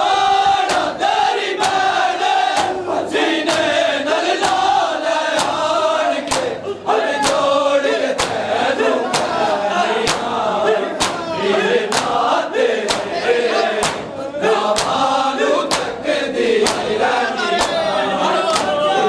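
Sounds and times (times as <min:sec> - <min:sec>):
men chanting in unison: 0:00.0 - 0:19.0
hands beating chests: 0:00.6 - 0:01.0, 0:01.6 - 0:02.8, 0:03.4 - 0:03.8, 0:04.4 - 0:19.0.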